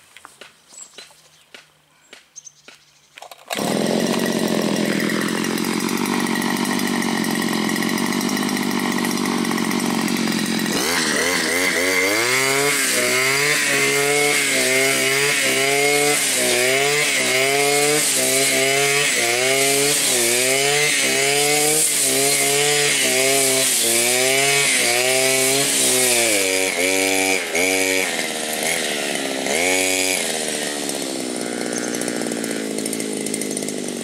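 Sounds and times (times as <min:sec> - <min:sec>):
brushcutter engine revving: 0:03.2 - 0:34.0.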